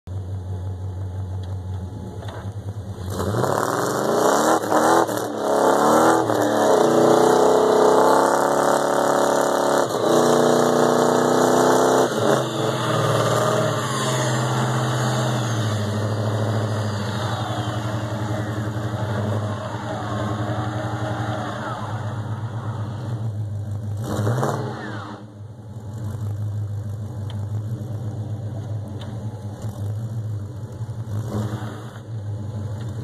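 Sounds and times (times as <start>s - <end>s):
truck engine revving: 1.8s - 33.0s.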